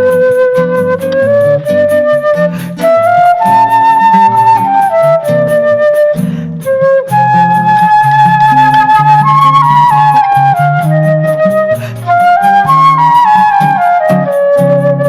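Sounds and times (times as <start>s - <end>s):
flute melody: 0.0s - 15.0s
light percussion: 0.0s - 15.0s
plucked strings accompaniment: 0.0s - 15.0s.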